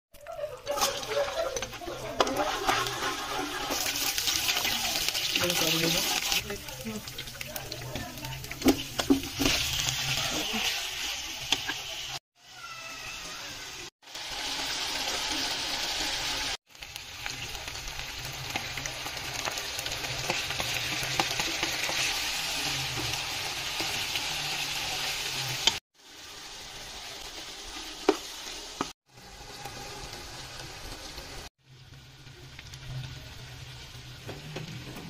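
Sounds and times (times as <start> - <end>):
chicken sizzling in oil: 0.2 - 35.0.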